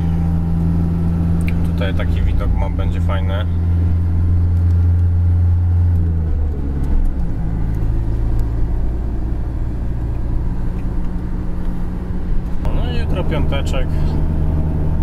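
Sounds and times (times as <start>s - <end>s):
tyre and road noise: 0.0s - 15.0s
van engine hum: 0.0s - 15.0s.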